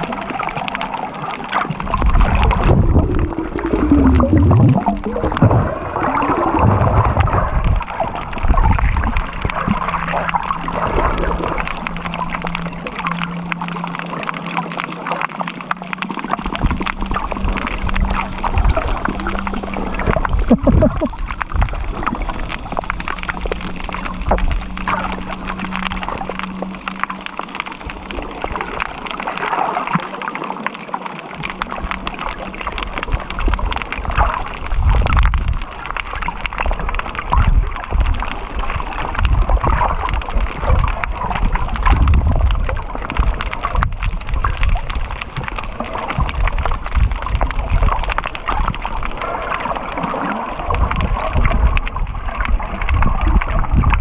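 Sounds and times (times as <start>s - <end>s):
low steady hum: 0.0s - 54.0s
muffled underwater gurgling and sloshing: 0.0s - 54.0s.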